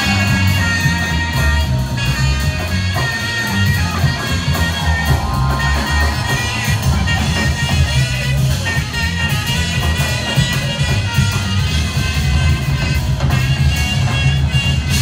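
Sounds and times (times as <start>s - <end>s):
drums: 0.0s - 15.0s
tenor saxophone solo: 0.0s - 15.0s
upright bass: 0.0s - 15.0s.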